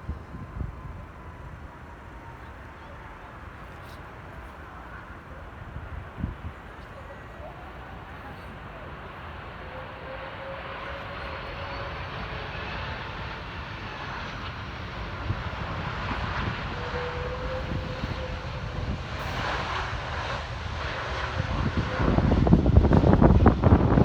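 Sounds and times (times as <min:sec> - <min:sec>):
airplane engines rumbling: 0:00.0 - 0:24.0.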